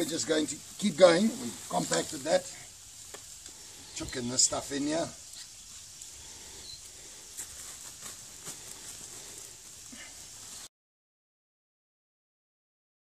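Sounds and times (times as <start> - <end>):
manure and straw rustling: 0.0 - 10.7.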